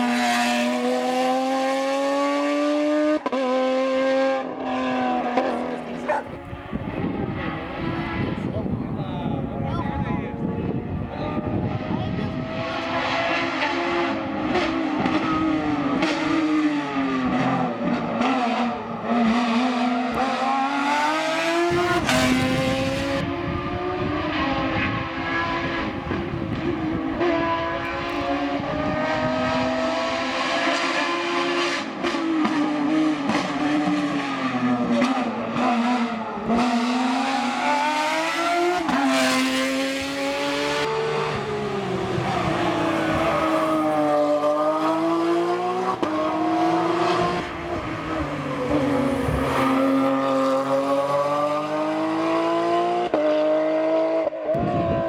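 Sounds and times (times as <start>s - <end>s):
racing car engine at high revs: 0.0s - 55.0s.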